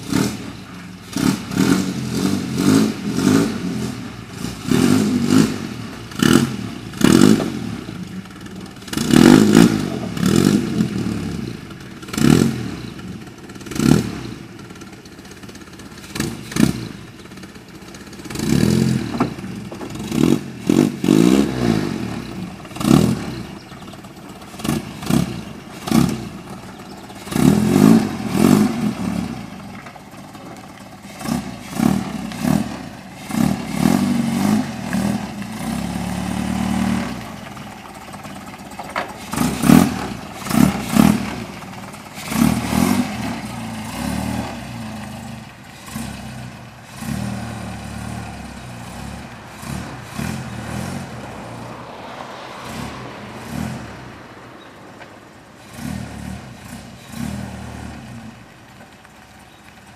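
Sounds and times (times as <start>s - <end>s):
car engine revving in bursts: 0.0s - 14.9s, 15.8s - 58.8s
engine clatter: 0.0s - 59.9s.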